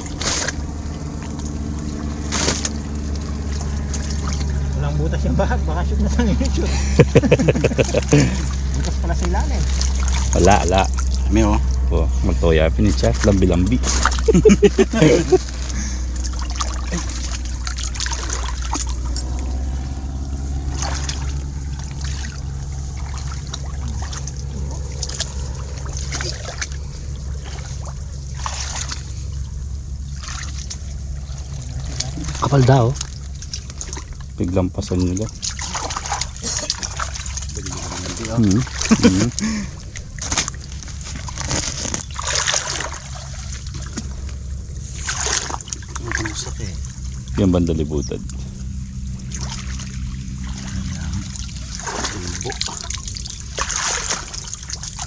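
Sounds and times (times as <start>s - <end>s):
creek water sloshing and trickling: 0.0s - 55.0s
small water splashes: 0.0s - 55.0s
steady low hum: 0.0s - 55.0s
steady low rumble: 0.0s - 55.0s.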